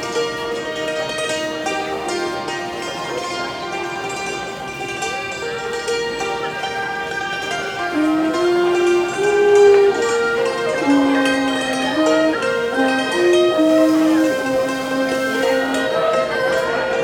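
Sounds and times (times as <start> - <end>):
bowed fiddle melody: 0.0 - 17.0
hammered dulcimer struck: 0.0 - 17.0.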